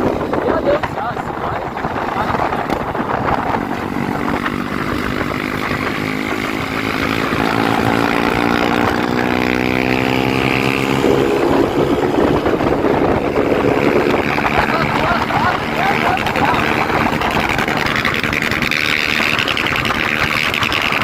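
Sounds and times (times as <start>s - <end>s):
motorcycle engine under load: 0.0s - 21.0s.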